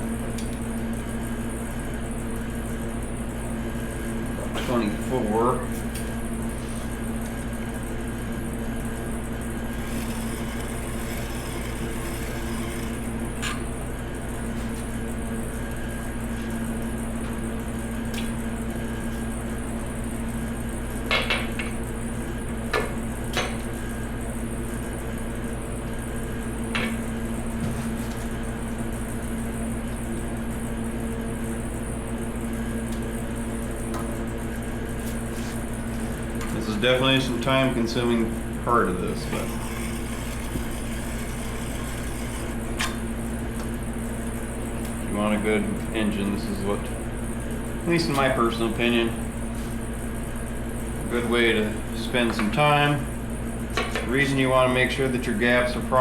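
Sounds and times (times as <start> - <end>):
electric motor hum: 0.0 - 56.0.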